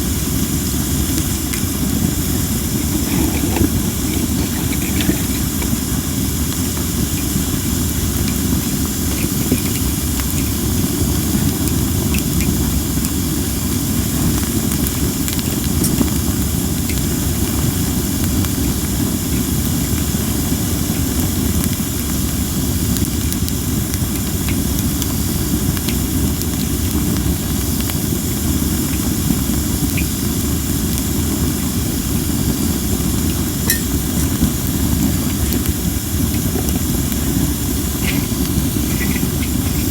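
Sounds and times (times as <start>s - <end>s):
campfire hissing: 0.0s - 39.9s.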